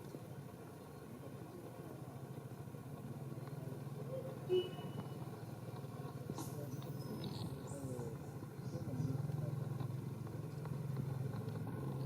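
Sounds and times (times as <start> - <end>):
vehicle engine idling: 0.3 - 12.0.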